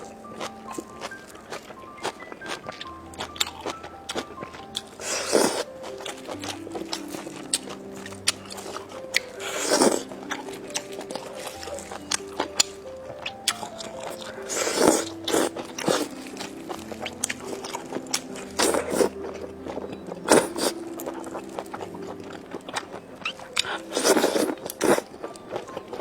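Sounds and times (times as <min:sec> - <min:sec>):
crunchy bites and chewing: 0:00.0 - 0:26.0.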